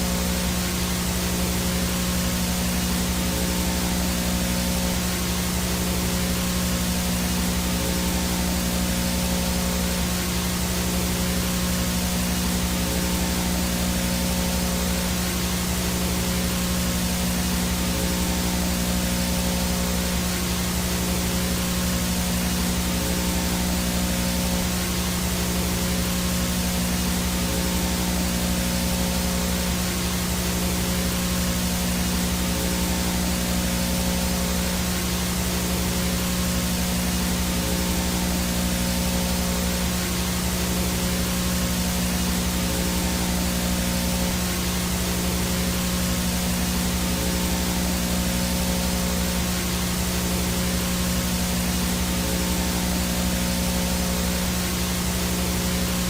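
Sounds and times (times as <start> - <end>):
faint high whine: 0.0 - 56.0
low buzzing hum: 0.0 - 56.0
static hiss: 0.0 - 56.0.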